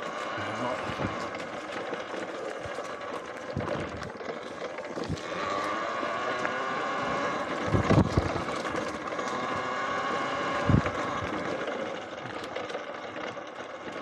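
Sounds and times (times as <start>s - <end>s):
electric bike motor whining: 0.0s - 14.0s.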